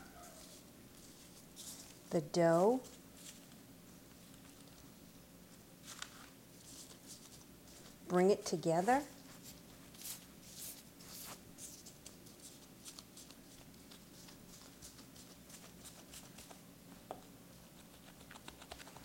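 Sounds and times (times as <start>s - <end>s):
gloved hands rustling on paper: 0.0s - 19.0s.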